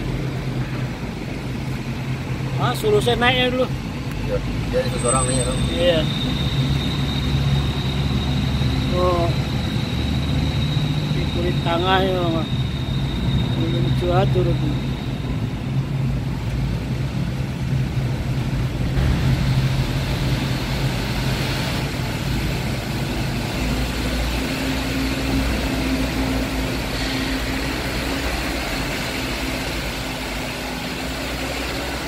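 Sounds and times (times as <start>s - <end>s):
truck engine running: 0.0s - 32.0s.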